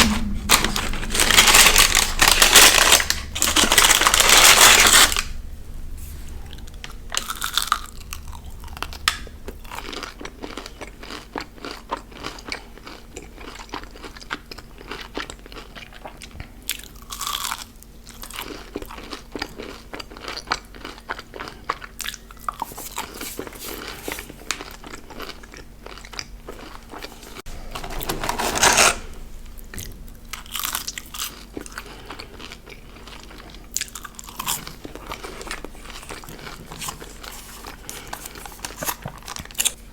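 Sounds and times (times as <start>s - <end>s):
chewing and crunching food: 0.0s - 5.4s, 6.2s - 39.9s.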